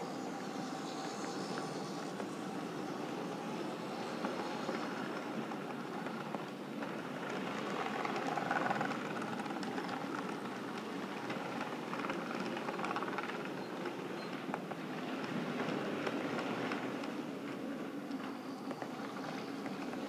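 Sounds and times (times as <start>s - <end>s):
model train wheels rumbling: 0.3s - 20.0s.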